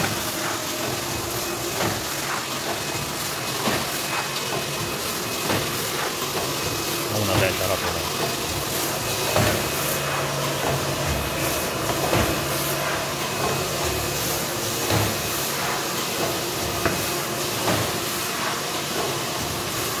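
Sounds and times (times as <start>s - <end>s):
machine clatter and hiss: 0.0s - 20.0s.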